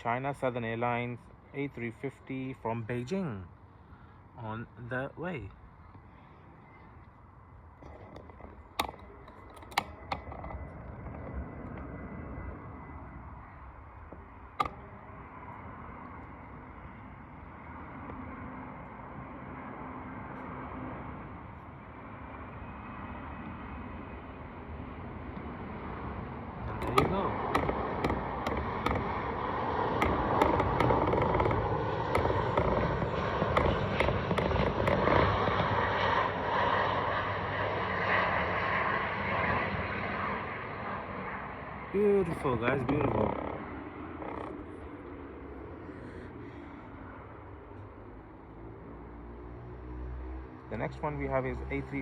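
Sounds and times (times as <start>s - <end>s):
distant jet airliner rumble: 0.0s - 52.0s.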